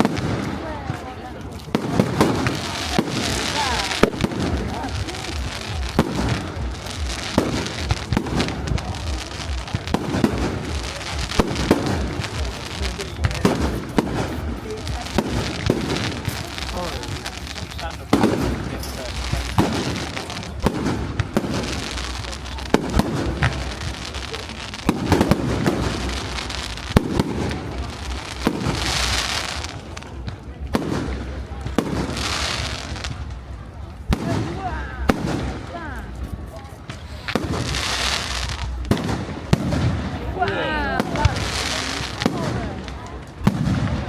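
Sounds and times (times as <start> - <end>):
fireworks bangs and crackling pops: 0.0 - 44.0.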